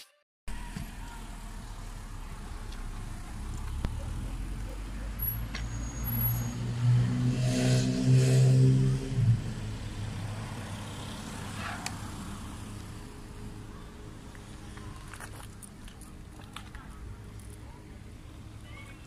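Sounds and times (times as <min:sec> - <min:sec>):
motor vehicle passing: 0:01.2 - 0:19.0.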